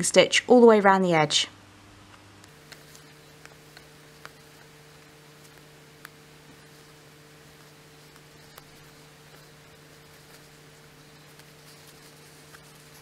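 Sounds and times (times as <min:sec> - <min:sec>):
faint electrical hum: 0:00.0 - 0:13.0
faint fabric clicks: 0:02.4 - 0:13.0.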